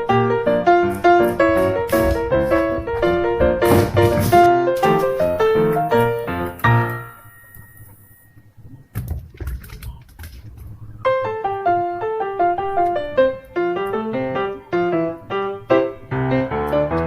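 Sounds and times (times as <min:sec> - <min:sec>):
piano melody: 0:00.0 - 0:09.3, 0:10.7 - 0:17.0
low rustling: 0:00.0 - 0:17.0.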